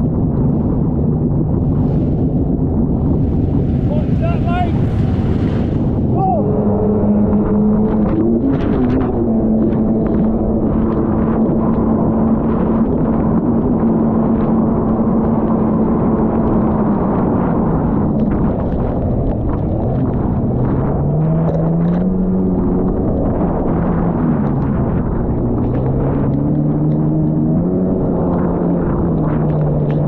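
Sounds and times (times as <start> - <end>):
jet ski engine running hard: 0.0 - 30.0.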